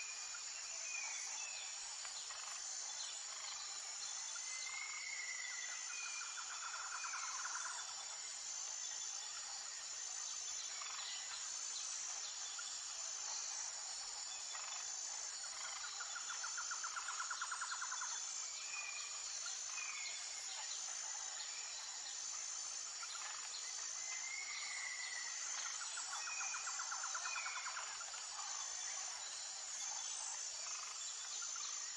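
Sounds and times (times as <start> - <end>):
insect trill: 0.0 - 31.9
insects chirring: 0.0 - 31.9.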